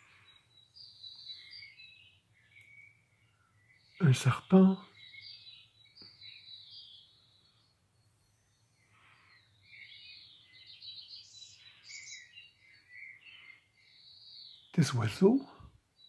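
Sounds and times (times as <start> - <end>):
faint birdsong chirps and trills: 0.0 - 16.0.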